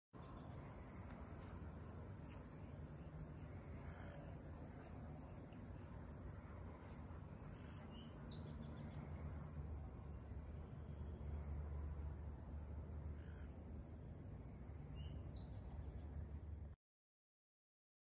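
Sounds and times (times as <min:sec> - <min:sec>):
crickets chirping chorus: 0:00.2 - 0:16.8.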